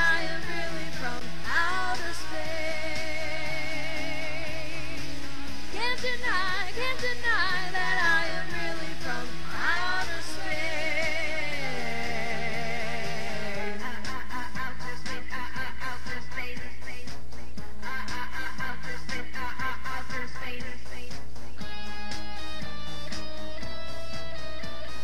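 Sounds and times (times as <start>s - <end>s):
pop instrumental backing: 0.0s - 25.0s.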